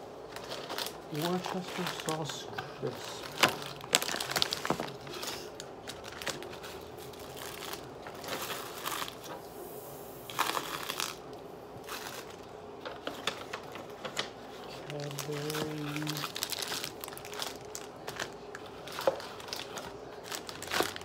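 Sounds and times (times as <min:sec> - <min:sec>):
snack wrappers crinkling: 0:00.2 - 0:09.4, 0:10.3 - 0:21.0.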